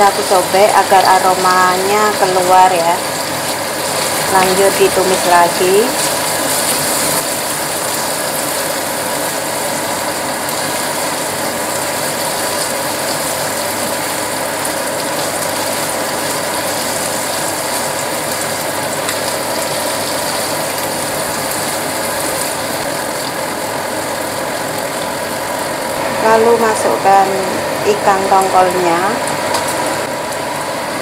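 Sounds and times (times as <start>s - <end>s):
spice paste sizzling in oil: 0.0s - 31.0s.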